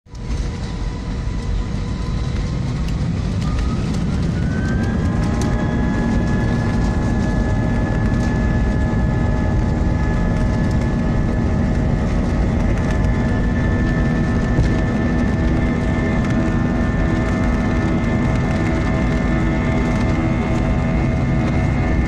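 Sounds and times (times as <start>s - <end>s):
airliner engines spooling up: 0.1s - 22.0s
rising engine whine: 0.1s - 22.0s.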